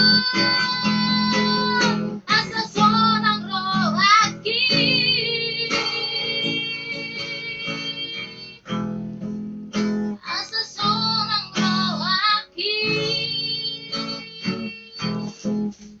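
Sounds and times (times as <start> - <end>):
high-pitched singing: 0.0 - 8.7, 10.2 - 15.6
strummed acoustic guitar: 0.0 - 16.0.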